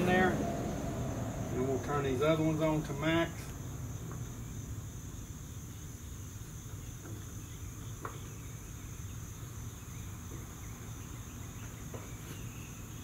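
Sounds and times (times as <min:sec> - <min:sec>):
high background hiss: 0:00.0 - 0:13.0.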